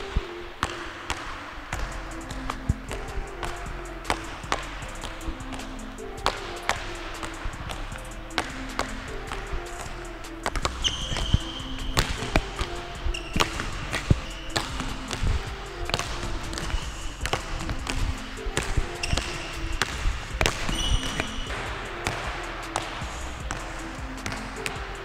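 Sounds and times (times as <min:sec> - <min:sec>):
background music: 0:00.0 - 0:25.0
basketballs bouncing on hard court: 0:00.0 - 0:25.0.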